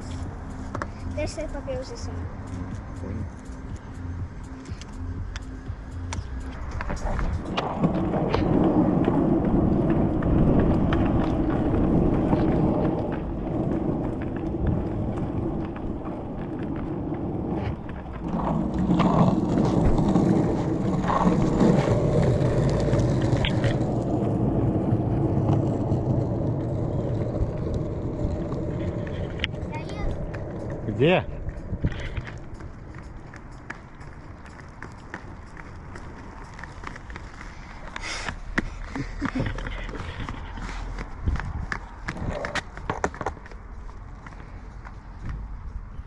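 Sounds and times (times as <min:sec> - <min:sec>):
roller skate wheels on pavement: 0:00.0 - 0:46.0.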